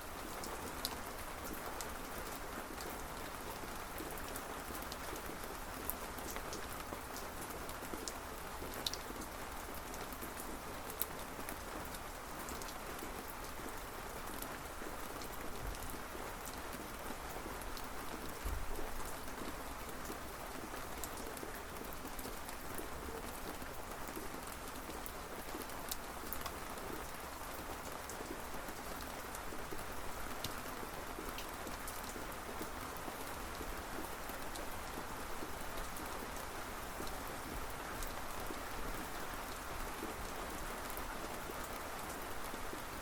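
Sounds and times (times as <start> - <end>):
rain falling: 0.0 - 43.0.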